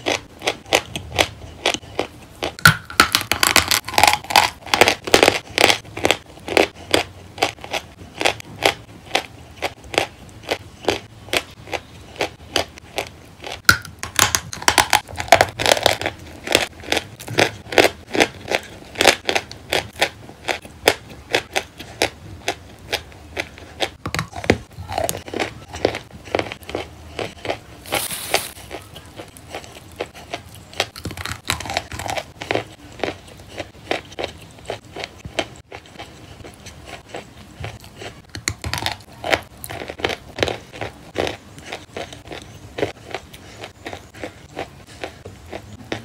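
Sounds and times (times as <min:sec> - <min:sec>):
person chewing wet paste: 0:00.0 - 0:46.0.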